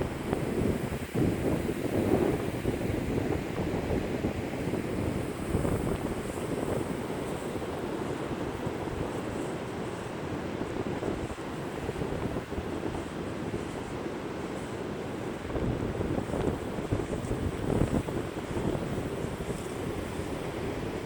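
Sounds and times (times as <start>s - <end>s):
gusty wind buffeting microphone: 0.0s - 21.0s
surf on beach: 0.0s - 21.0s.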